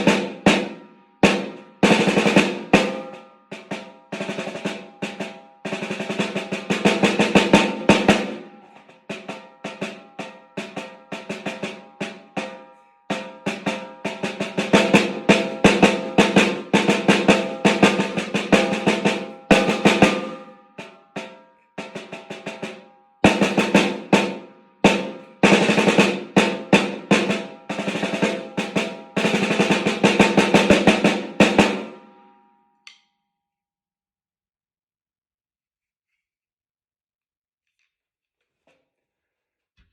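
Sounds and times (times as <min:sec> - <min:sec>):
snare drum rolls: 0:00.0 - 0:32.3.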